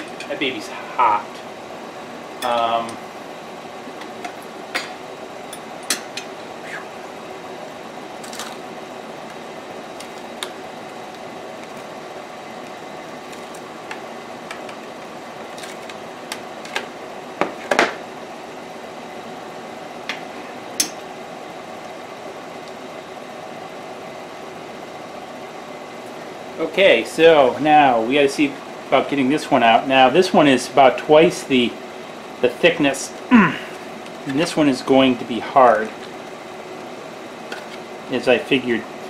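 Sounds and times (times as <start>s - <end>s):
steady machine hum: 0.0s - 39.0s.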